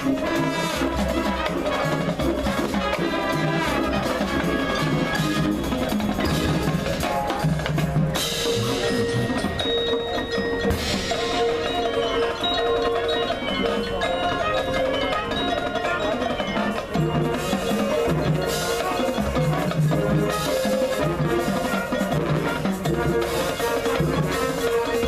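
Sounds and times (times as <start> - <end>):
held wind notes: 0.0 - 25.0
marching band playing: 0.0 - 25.0
marimbas and mallet percussion: 0.0 - 25.0.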